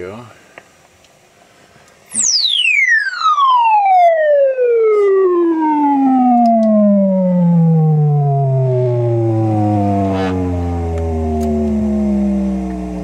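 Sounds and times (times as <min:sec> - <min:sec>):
tone sweeping downward: 0:02.1 - 0:13.0.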